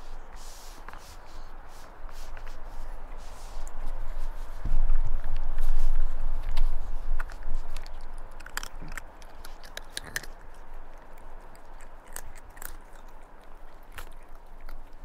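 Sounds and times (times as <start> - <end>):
cats crunching dry treats: 0.6 - 15.0.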